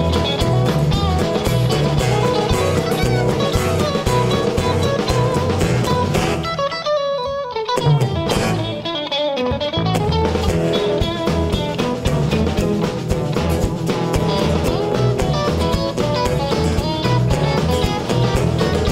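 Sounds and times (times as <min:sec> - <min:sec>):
bass guitar: 0:00.0 - 0:18.9
drum kit: 0:00.0 - 0:18.9
electric and acoustic guitars: 0:00.0 - 0:18.9.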